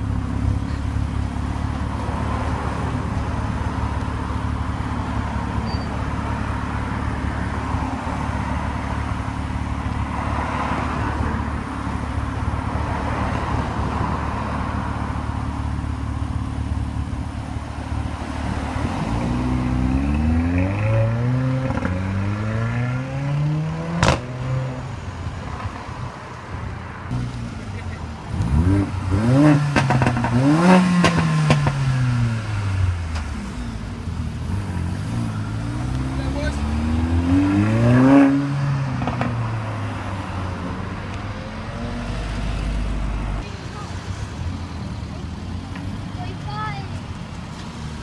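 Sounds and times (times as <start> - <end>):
car engine idling and accelerating: 0.0 - 48.0.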